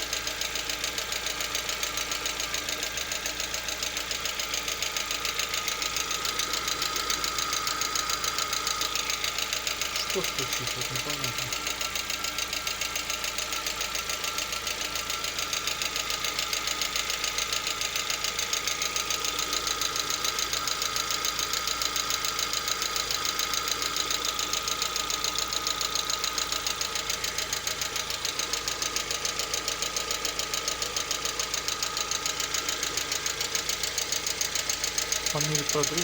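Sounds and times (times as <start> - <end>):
car engine idling with knock: 0.0 - 36.0.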